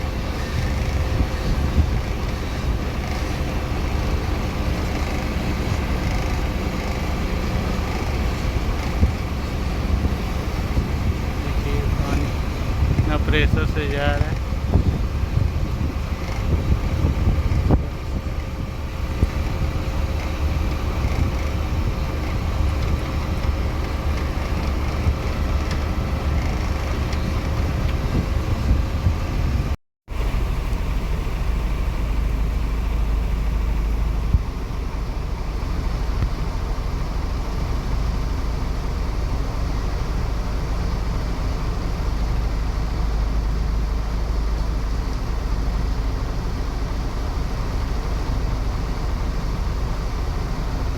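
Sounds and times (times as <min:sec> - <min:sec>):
heavy vehicle engine rumbling: 0:00.0 - 0:50.9.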